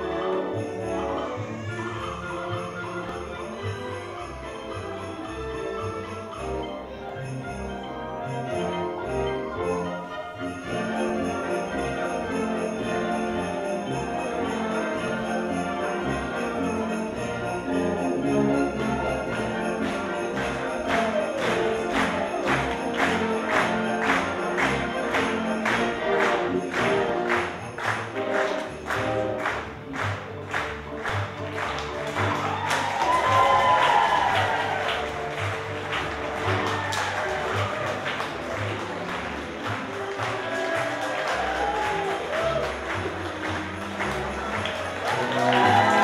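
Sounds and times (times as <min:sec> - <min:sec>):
orchestral music with jingling bells: 0:00.0 - 0:46.0.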